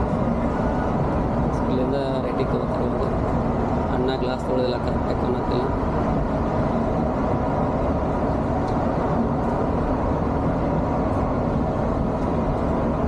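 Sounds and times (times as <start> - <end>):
diesel engine drone: 0.0 - 13.0
road and tyre noise: 0.0 - 13.0.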